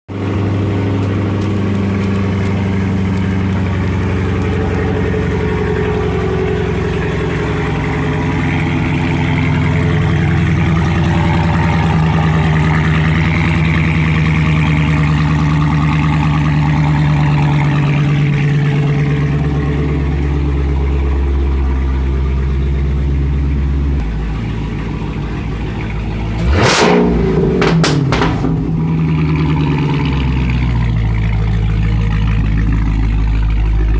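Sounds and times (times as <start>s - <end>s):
car engine droning: 0.1s - 33.9s
sharp exhaust pops: 0.2s - 33.9s.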